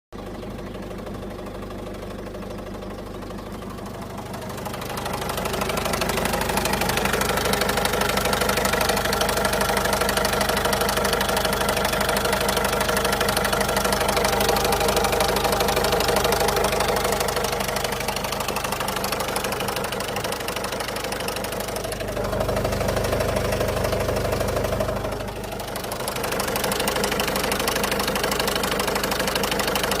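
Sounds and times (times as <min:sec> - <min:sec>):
diesel engine running: 0:00.2 - 0:30.0
strange engine noise: 0:00.2 - 0:30.0.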